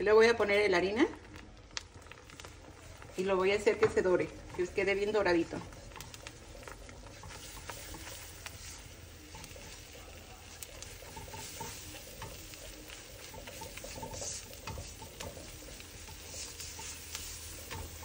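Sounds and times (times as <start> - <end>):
faint sizzle: 0.0 - 18.0
spatula scraping a pan: 2.9 - 18.0.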